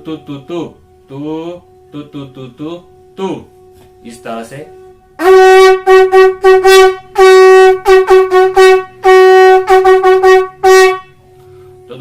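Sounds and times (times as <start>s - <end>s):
conch shell blown: 0.0s - 12.0s.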